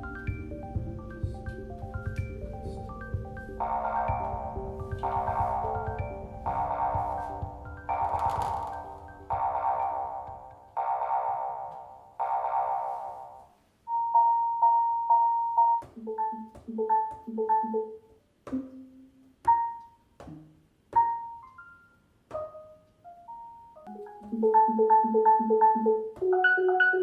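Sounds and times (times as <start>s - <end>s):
keyboard-like chords: 0.0s - 27.0s.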